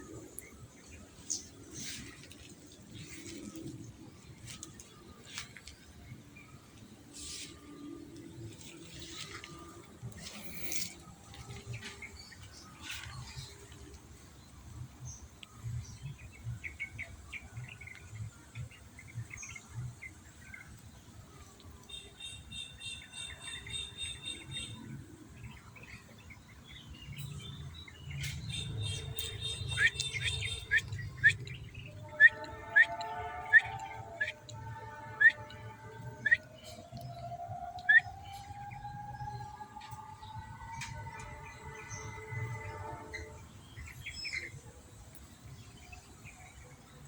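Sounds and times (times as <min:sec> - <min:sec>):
bird chirping: 0:00.0 - 0:47.0.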